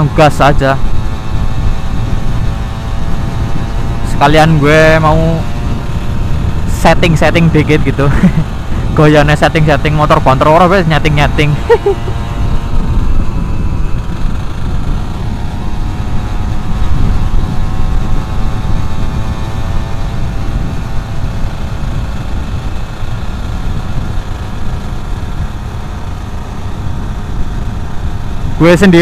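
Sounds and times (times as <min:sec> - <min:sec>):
two-stroke engine running: 0:00.0 - 0:29.0
wind rumble on microphone: 0:00.0 - 0:29.0.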